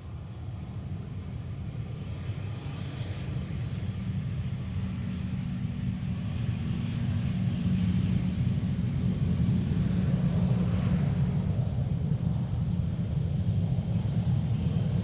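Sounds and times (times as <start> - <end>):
jet airliner engine rumble: 0.0 - 15.0.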